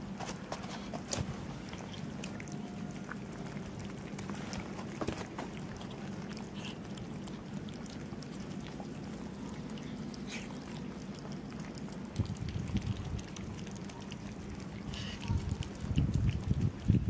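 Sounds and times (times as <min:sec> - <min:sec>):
cats chewing and lapping: 0:00.0 - 0:17.0
steady low hum: 0:00.0 - 0:17.0.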